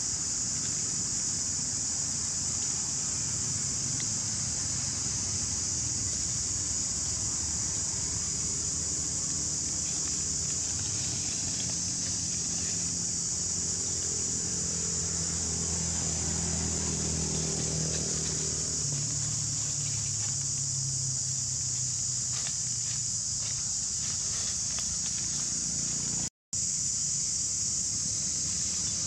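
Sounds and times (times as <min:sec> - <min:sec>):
high-pitched insect drone: 0:00.0 - 0:29.0
low engine hum: 0:00.1 - 0:26.3.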